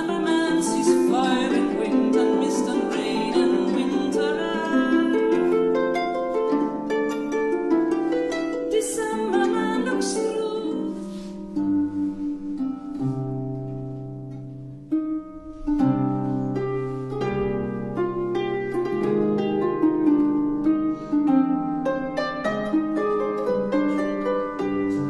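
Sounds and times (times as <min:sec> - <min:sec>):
harp playing: 0:00.0 - 0:25.0.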